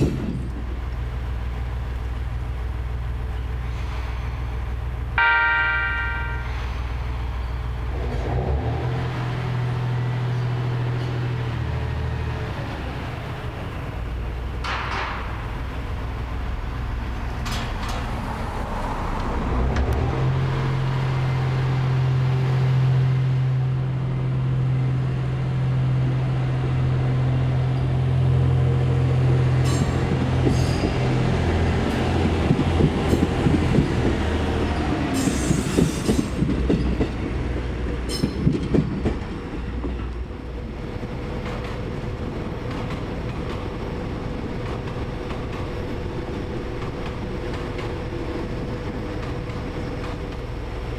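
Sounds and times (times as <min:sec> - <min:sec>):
train wheels clattering over rail joints: 0:00.0 - 0:05.0, 0:07.2 - 0:22.4, 0:28.8 - 0:50.9.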